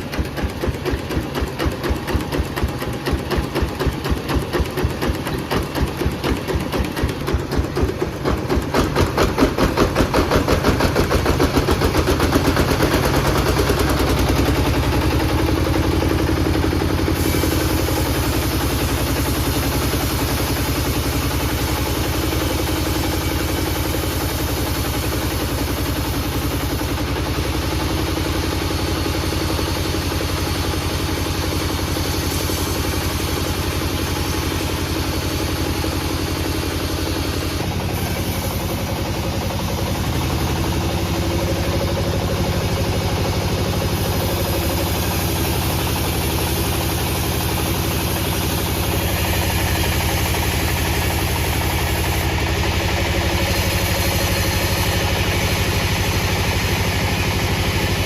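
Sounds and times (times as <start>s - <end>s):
low-pitched engine running: 0.0s - 58.0s.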